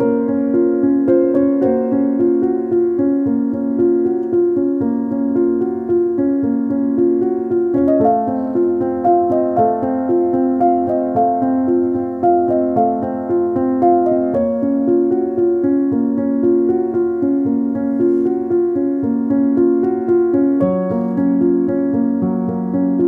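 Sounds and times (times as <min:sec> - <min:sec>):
keyboard music: 0:00.0 - 0:23.0.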